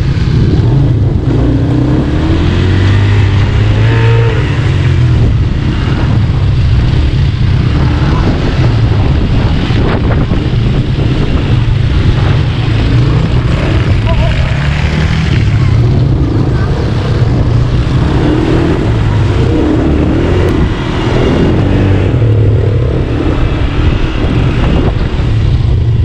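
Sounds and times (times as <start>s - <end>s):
buggy engine running: 0.0s - 26.0s.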